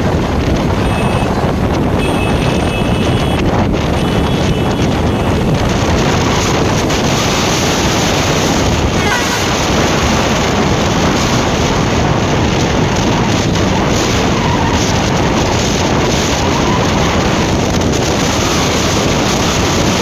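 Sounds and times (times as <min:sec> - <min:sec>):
motorcycle engine: 0:00.0 - 0:20.0
road noise: 0:00.0 - 0:20.0
wind rushing over microphone: 0:00.0 - 0:20.0.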